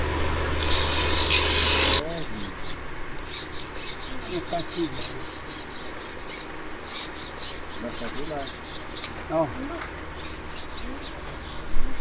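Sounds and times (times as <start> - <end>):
electric grinding wheel: 0.0 - 12.0
hand file rasping on wood: 0.7 - 9.5, 10.1 - 12.0.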